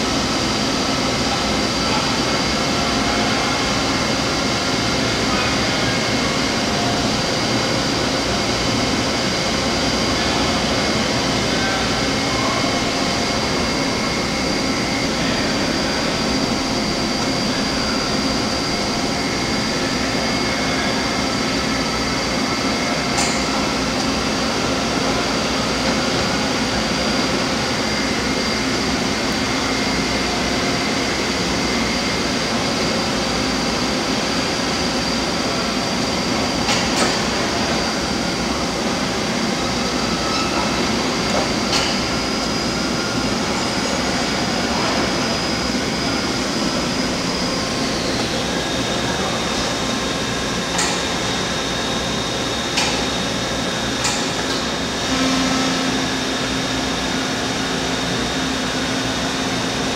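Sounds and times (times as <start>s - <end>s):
machine hum with high whine: 0.0s - 59.9s.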